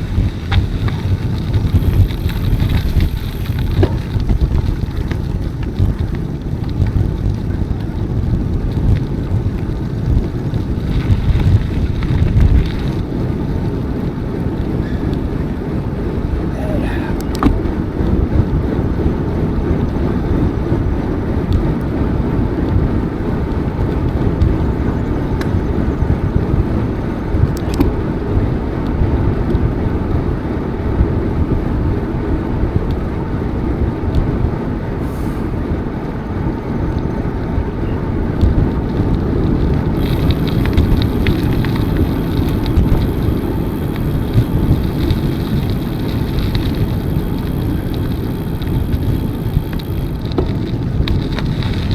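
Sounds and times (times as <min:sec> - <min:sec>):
bicycle tyres rolling: 0:00.0 - 0:51.9
wind buffeting microphone: 0:00.0 - 0:51.9.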